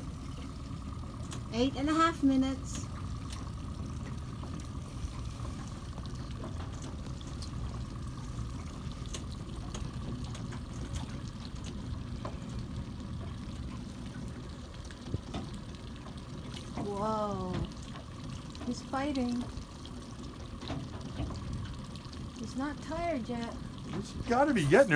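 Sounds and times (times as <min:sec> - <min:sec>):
water lapping against boat hull: 0:00.0 - 0:24.9.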